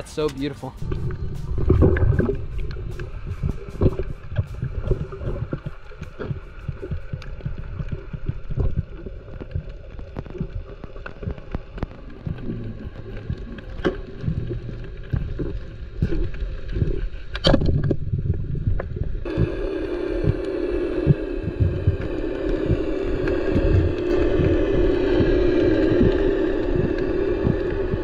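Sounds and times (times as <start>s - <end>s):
steady hum: 0.0s - 16.2s, 18.2s - 28.0s
low rumbling water wash: 0.0s - 28.0s.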